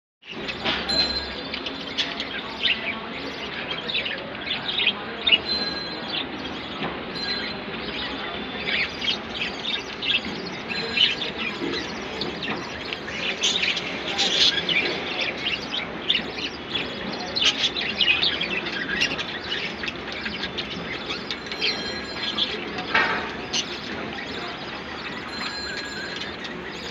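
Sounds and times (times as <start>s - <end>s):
budgerigars chirping: 0.3s - 26.9s.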